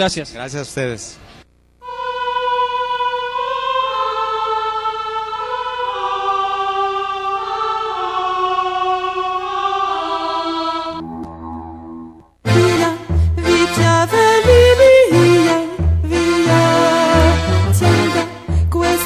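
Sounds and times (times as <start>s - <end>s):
choir singing held notes: 1.8s - 19.0s.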